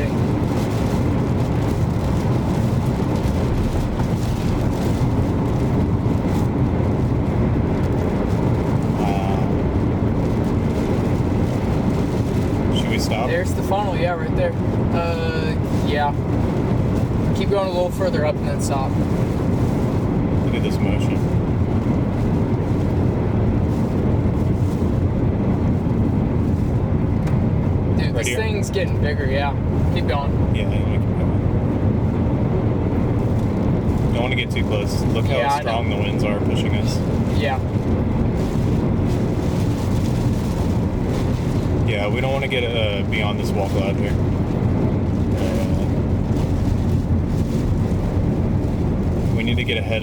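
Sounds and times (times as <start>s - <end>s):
road noise: 0.0s - 50.0s
wind buffeting a moving car: 0.0s - 50.0s.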